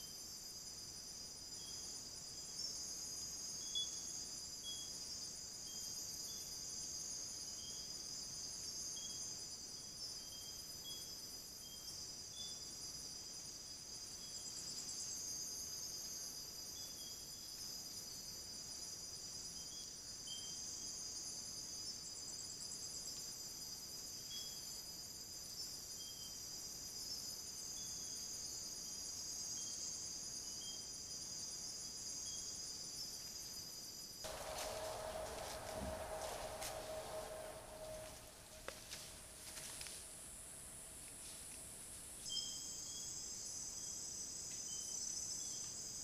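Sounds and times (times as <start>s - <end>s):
insect trills: 0.0s - 46.0s
low insect chirp: 0.0s - 46.0s.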